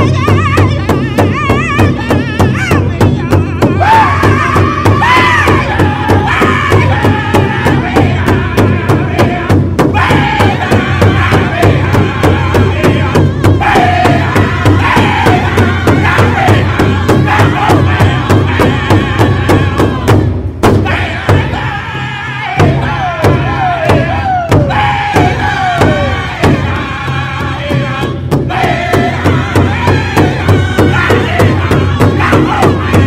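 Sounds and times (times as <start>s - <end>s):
big drum steady fast beat: 0.0s - 33.0s
group of singers chanting: 0.0s - 33.0s.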